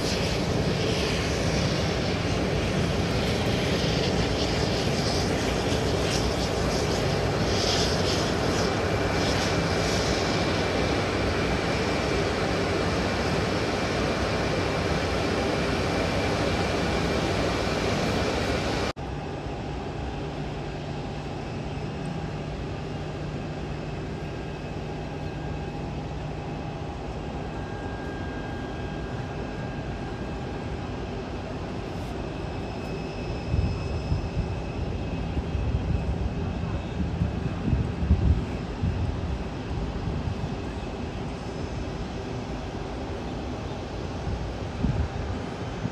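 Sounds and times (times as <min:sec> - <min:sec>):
faint whining tones: 0:00.0 - 0:45.9
jet engines roaring: 0:00.0 - 0:45.9.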